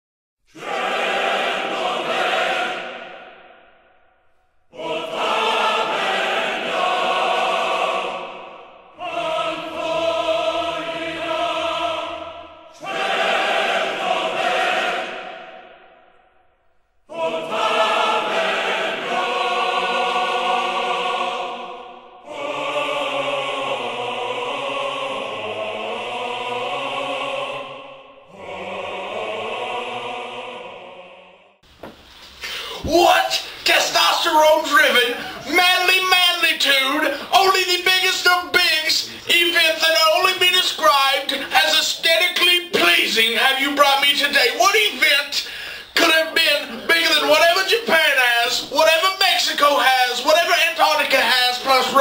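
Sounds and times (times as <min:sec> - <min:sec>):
choir singing held chords: 0:00.5 - 0:31.8, 0:32.4 - 0:52.0.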